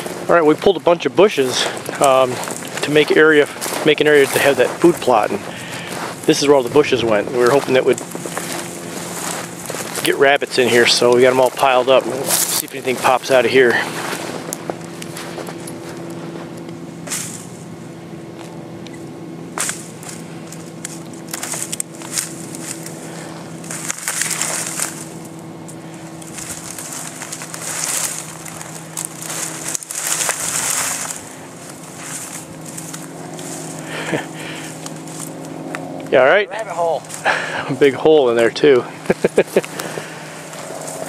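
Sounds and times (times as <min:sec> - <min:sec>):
dry brush being trampled: 0:00.0 - 0:18.6, 0:19.5 - 0:41.0
footsteps crunching in snow: 0:00.0 - 0:18.8, 0:19.5 - 0:36.0, 0:36.6 - 0:41.0
steady low hum: 0:00.0 - 0:41.0.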